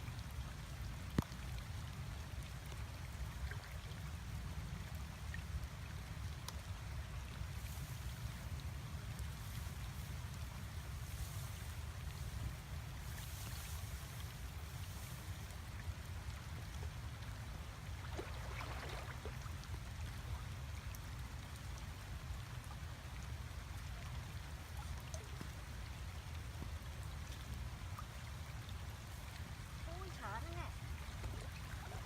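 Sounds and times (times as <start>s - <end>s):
water dripping and splashing: 0.0s - 32.0s.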